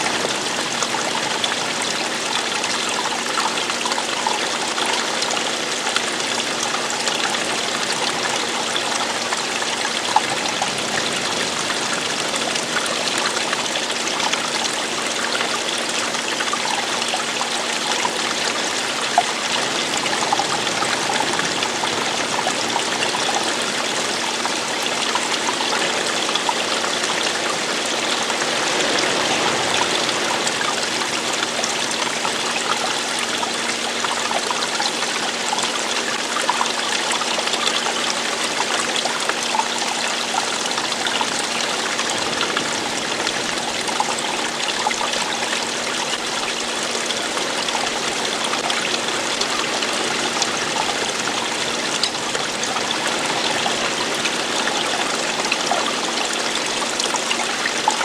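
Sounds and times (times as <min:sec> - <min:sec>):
stream rushing and splashing: 0:00.0 - 0:58.0.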